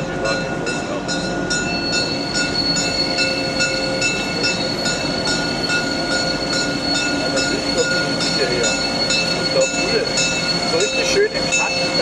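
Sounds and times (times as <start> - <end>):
high-pitched ringing squeal: 0.0 - 12.0
train rhythmic hissing beat: 0.0 - 12.0.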